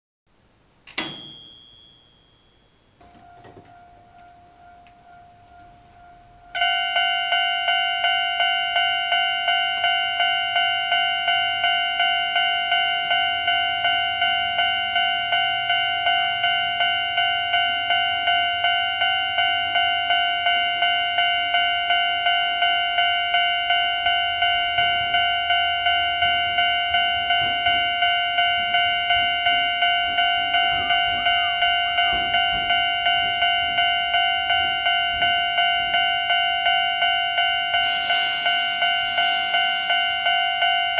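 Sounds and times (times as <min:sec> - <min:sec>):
level crossing warning bell: 0:00.9 - 0:40.9.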